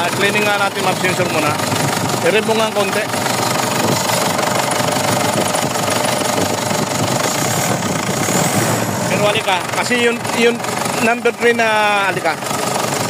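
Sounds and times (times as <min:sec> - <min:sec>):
diesel engine knocking clatter: 0:00.0 - 0:13.0.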